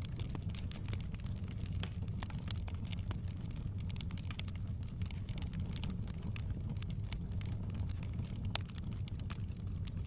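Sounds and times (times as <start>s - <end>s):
firewood crackling and popping: 0.0s - 10.0s
low rumble of flame: 0.0s - 10.0s.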